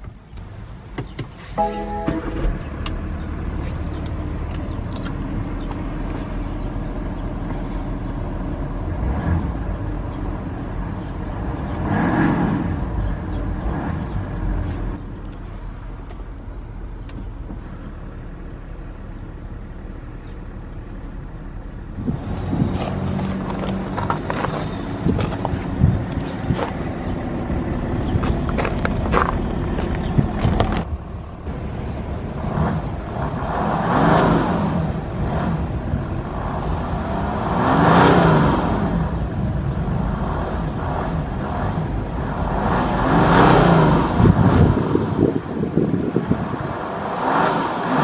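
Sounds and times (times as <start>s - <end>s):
diesel engine starting and idling: 0.1s - 48.0s.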